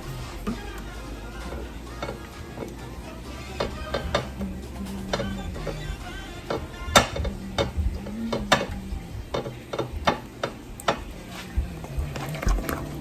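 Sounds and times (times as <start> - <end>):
low wavering hum: 0.0 - 13.0.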